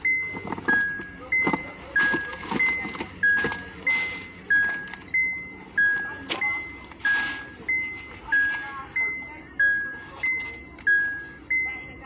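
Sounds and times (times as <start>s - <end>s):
two-note car warning chime: 0.0s - 12.0s.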